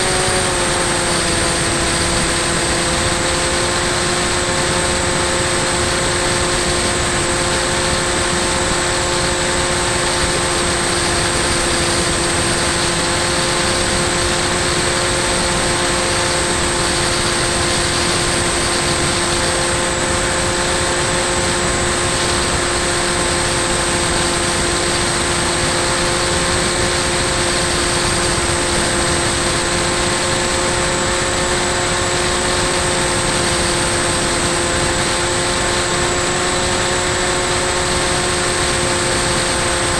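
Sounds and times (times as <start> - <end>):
electric motor and propeller: 0.0 - 39.9
wind noise: 0.0 - 39.9.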